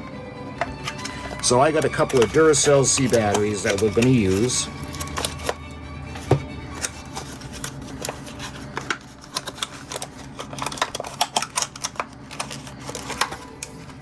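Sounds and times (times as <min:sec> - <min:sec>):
batteries and packaging handled: 0:00.6 - 0:14.0.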